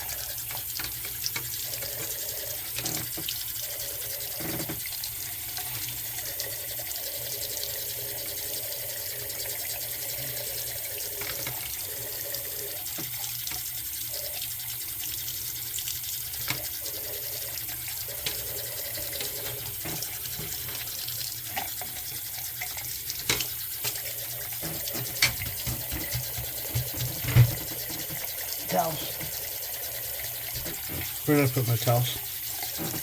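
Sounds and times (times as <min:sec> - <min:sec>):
faucet running into sink: 0:00.0 - 0:33.0.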